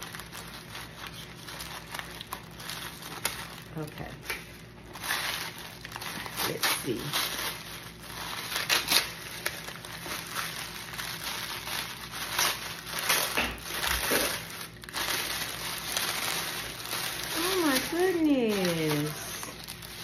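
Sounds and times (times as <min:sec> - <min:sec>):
tissue paper rustling: 0:00.0 - 0:20.0.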